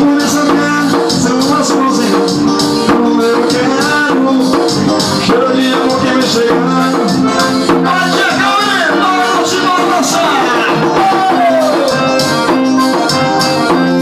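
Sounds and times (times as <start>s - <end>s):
electronic keyboard melody: 0.0s - 14.0s
shaker and drum beat: 0.0s - 14.0s.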